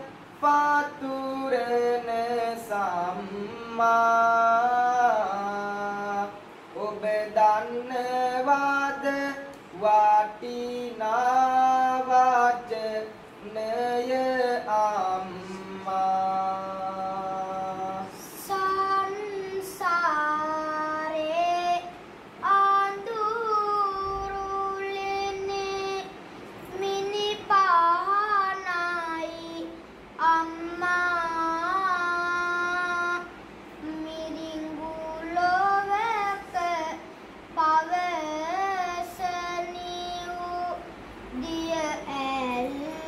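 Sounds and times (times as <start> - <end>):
boy singing unaccompanied: 0.0 - 43.0.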